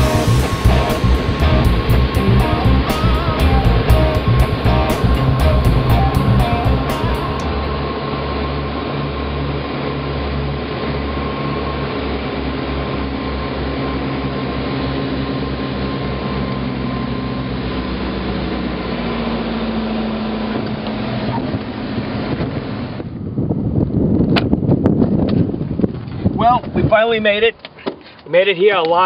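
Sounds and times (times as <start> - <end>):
light aircraft engine and propeller: 0.0 - 28.2.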